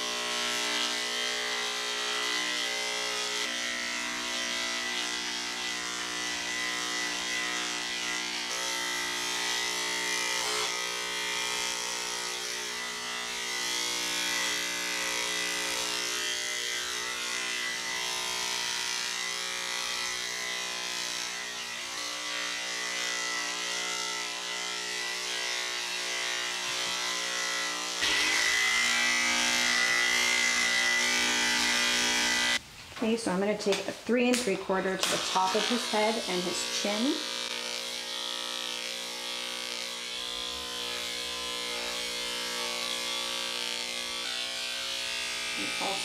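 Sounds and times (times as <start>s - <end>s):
electric clipper humming: 0.0s - 32.6s, 33.6s - 46.0s.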